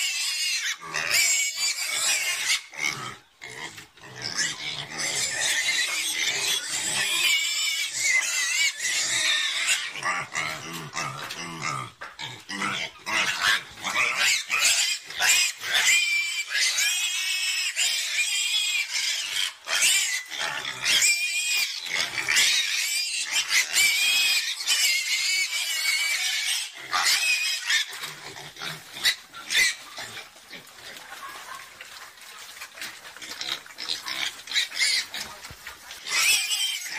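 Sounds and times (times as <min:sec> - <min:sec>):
pigs grunting: 0:00.0 - 0:36.9
pigs squealing: 0:00.0 - 0:36.9.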